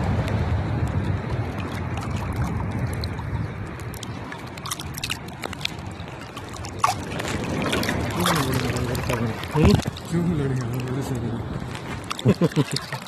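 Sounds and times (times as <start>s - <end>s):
water sloshing at shore: 0.0s - 13.0s
wind buffeting microphone: 0.0s - 13.0s.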